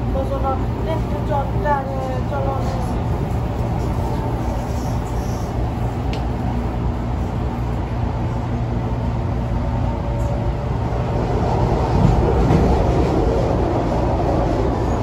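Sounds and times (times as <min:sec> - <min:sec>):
rumble of train wheels and motors: 0:00.0 - 0:15.0.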